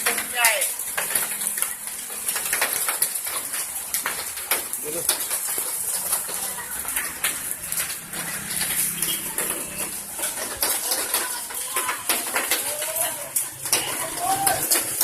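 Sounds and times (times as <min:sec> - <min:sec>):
hailstones hitting: 0:00.0 - 0:15.0.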